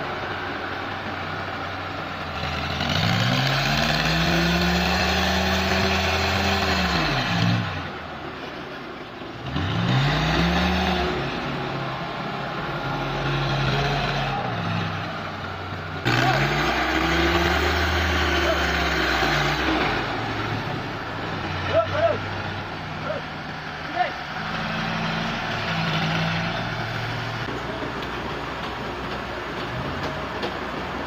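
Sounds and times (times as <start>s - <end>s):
engine revving: 2.1s - 8.0s, 9.3s - 30.6s.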